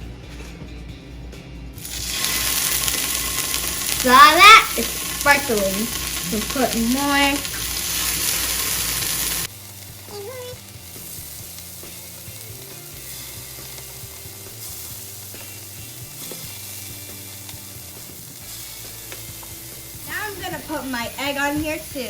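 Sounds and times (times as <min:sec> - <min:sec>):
cheese sizzling on a skillet: 0:01.8 - 0:22.0.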